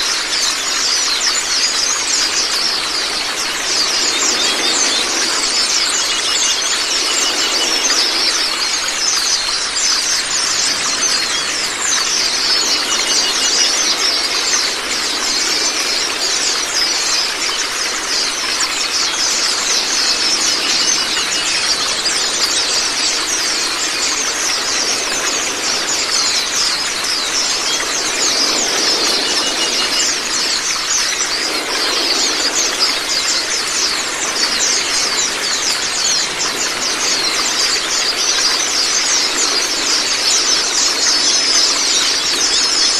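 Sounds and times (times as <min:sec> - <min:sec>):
running water rushing: 0:00.0 - 0:42.9
birds chattering: 0:02.1 - 0:42.9.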